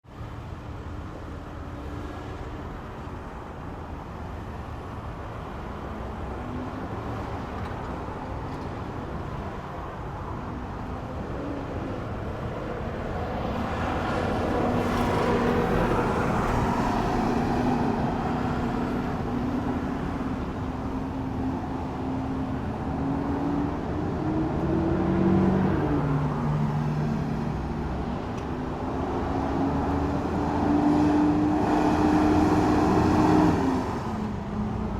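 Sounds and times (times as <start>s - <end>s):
road traffic rumble: 0.0s - 34.9s.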